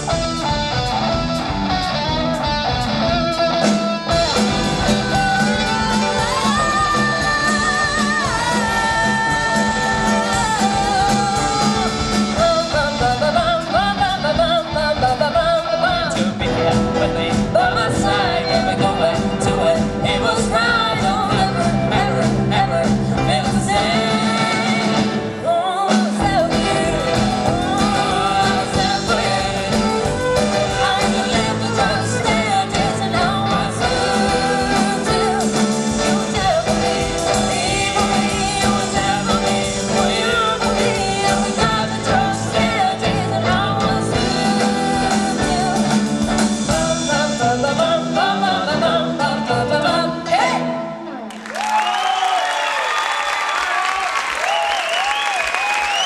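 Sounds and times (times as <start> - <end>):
bending lead guitar line: 0.0 - 51.5
live rock band playing: 0.0 - 51.8.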